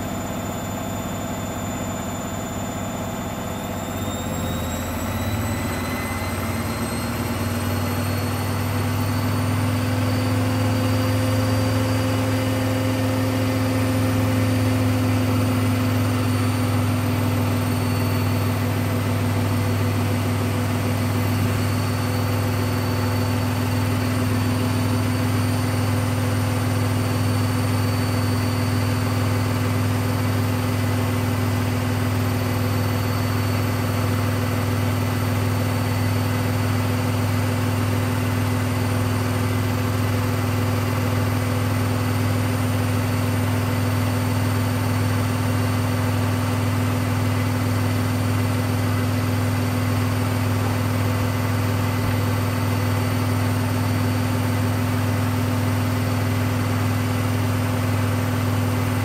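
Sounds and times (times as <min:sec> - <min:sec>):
washing machine spinning: 0:00.0 - 0:59.0
washing machine whine: 0:00.0 - 0:59.0.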